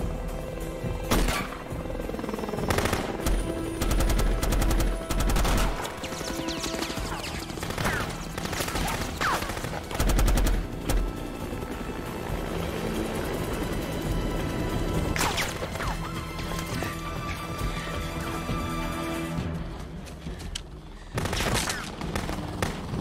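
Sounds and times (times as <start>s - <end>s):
tense film score: 0.0s - 23.0s.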